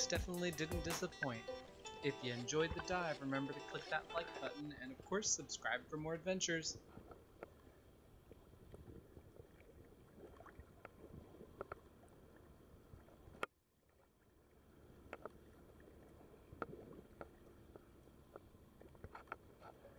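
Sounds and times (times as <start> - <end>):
small waves lapping: 1.6 - 19.9.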